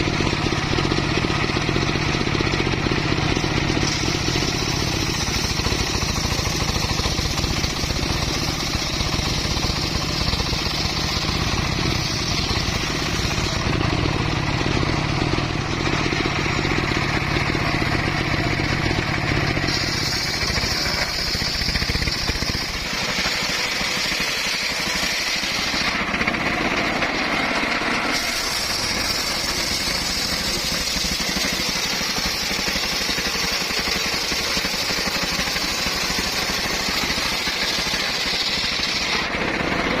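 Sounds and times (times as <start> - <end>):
circular saw cutting wood: 0.0 - 40.0.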